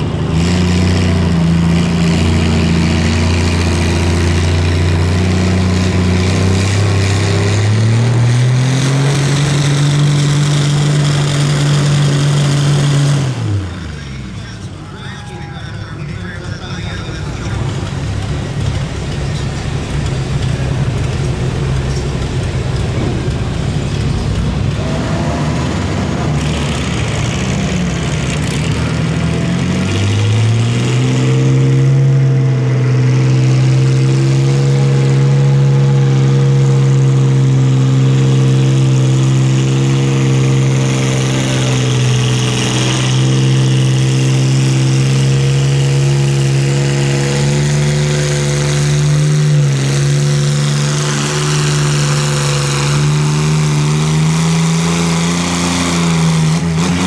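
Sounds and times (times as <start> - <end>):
truck engine rumbling and revving: 0.0 - 57.0.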